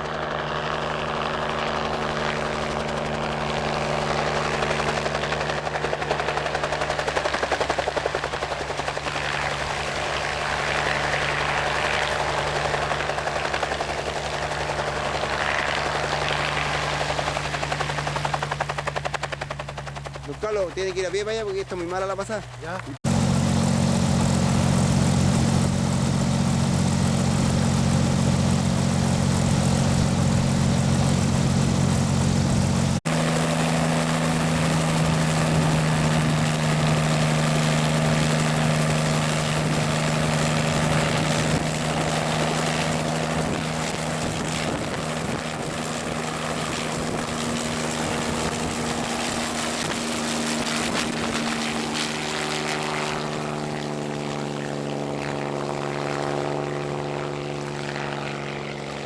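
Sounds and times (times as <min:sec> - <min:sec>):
helicopter rotor and engine hum: 0:00.0 - 0:59.0.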